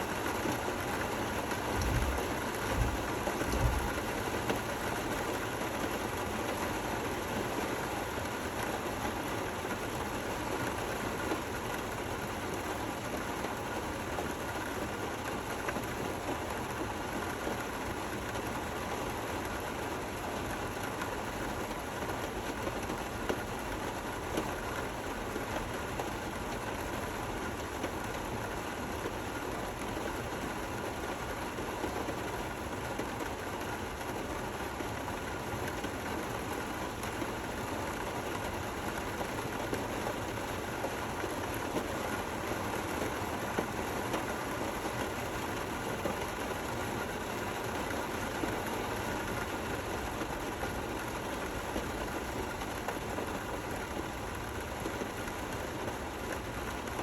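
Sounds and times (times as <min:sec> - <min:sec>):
gentle steady rain: 0:00.0 - 0:57.0.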